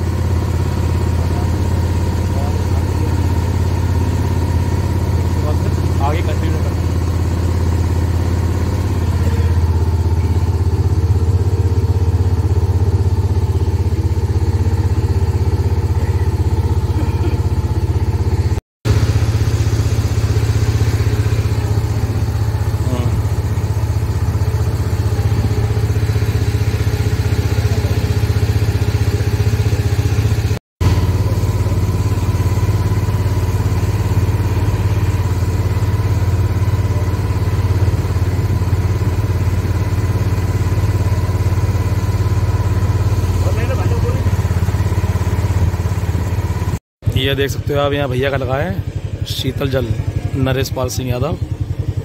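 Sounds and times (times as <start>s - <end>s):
motorboat engine droning: 0.0s - 52.0s.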